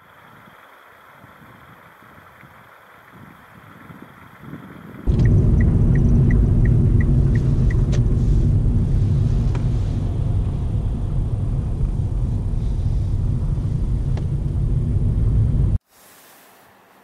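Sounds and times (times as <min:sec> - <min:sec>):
car road and engine rumble: 0:00.0 - 0:15.8.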